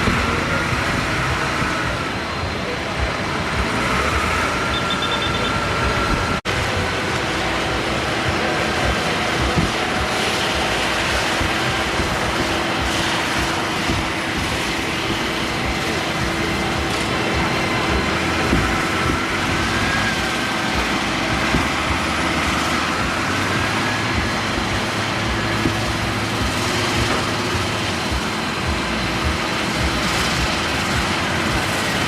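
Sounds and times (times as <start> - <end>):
farm machinery engine drone: 0.0 - 32.0.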